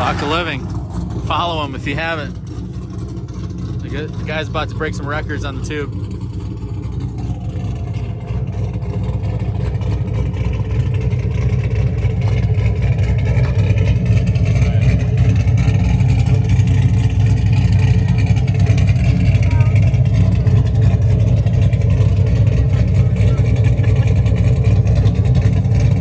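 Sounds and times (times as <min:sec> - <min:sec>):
car engine low rumble: 0:00.0 - 0:26.0.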